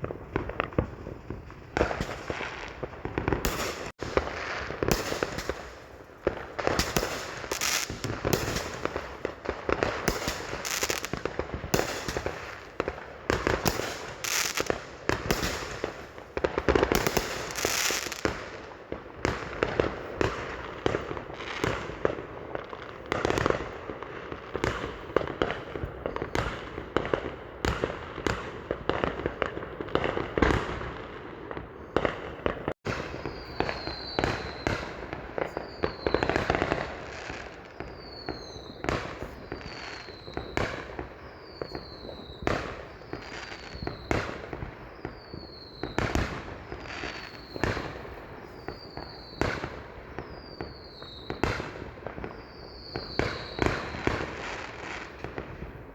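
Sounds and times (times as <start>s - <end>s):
fireworks banging: 0.0s - 49.8s
falling whistle of fireworks: 0.0s - 55.9s
fireworks crackling: 0.0s - 55.9s.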